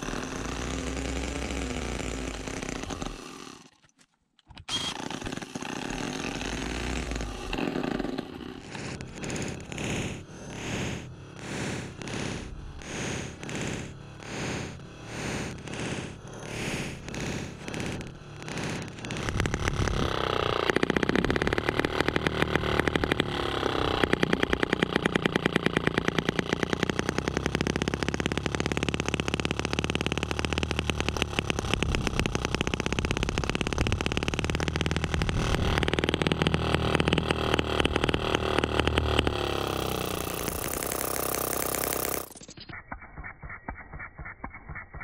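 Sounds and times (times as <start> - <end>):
small petrol engine running: 0.0 - 3.8, 4.6 - 42.8.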